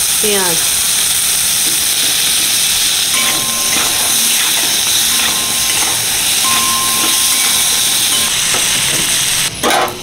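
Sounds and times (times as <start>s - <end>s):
vegetables sizzling in oil: 0.0s - 9.6s.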